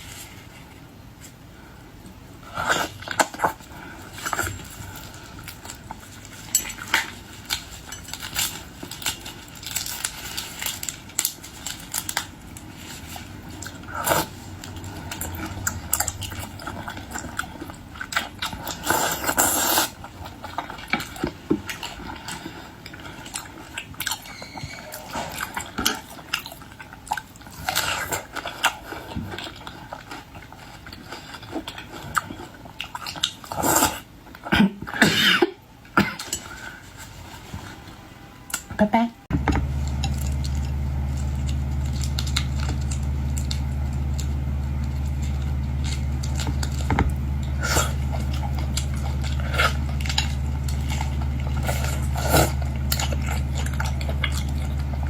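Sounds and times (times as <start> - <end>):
chewing and biting: 2.5 - 35.0, 39.4 - 55.0.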